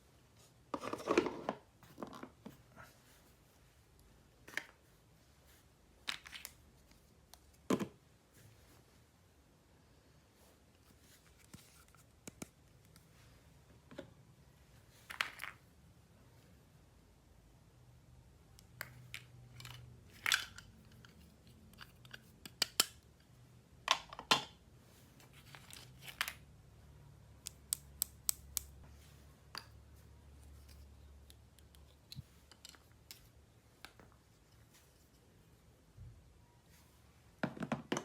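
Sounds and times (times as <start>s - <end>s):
plastic toys and packaging handled: 0.3s - 8.9s, 10.4s - 15.8s, 18.5s - 26.6s, 28.7s - 38.0s.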